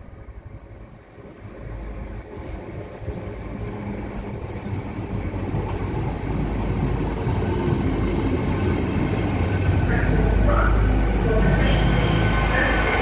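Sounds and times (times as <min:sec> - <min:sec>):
train wheels rumbling on rails: 0:00.0 - 0:13.0
train diesel engines running: 0:00.2 - 0:13.0.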